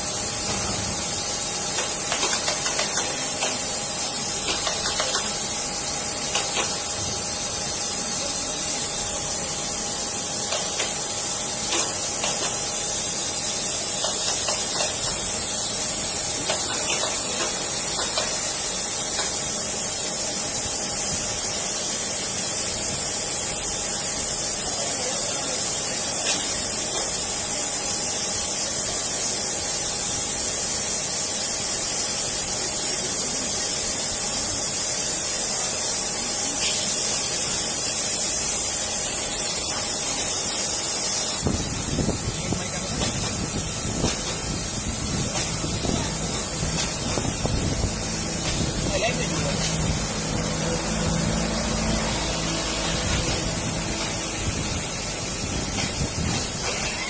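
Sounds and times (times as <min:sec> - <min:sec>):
steady high hiss: 0:00.0 - 0:57.0.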